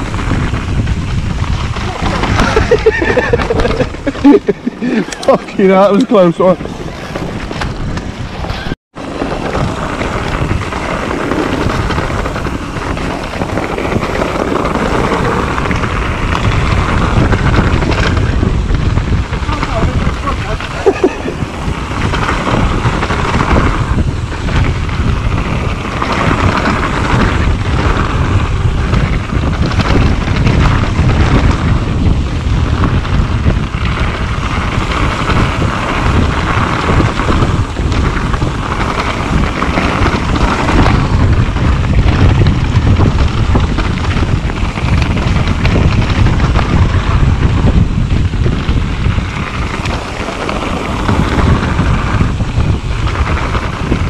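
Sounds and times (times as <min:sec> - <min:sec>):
bike tyres rumbling on dirt: 0:00.0 - 0:54.0
wind on microphone: 0:00.0 - 0:54.0.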